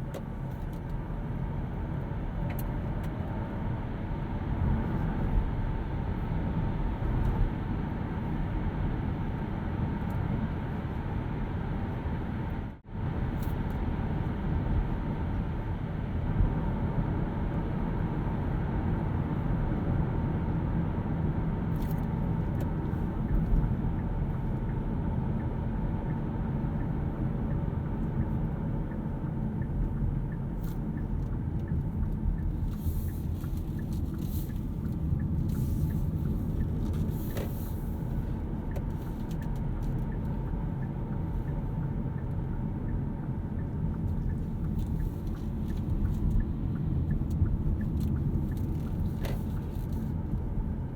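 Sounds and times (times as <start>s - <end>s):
road and tyre rumble: 0.0s - 50.9s.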